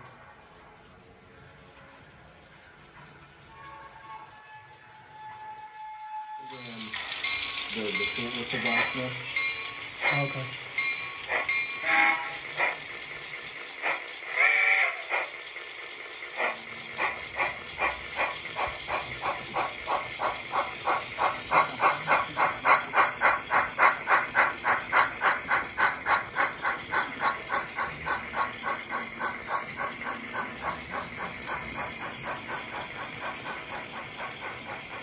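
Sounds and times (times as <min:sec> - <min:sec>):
model locomotive chuffing: 0:06.5 - 0:35.0.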